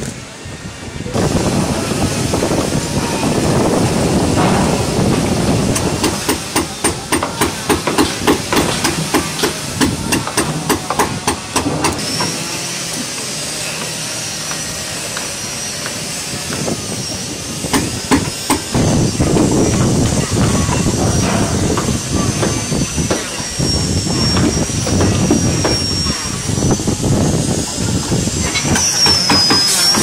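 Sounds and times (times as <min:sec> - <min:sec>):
hammer blows: 0:01.1 - 0:30.0.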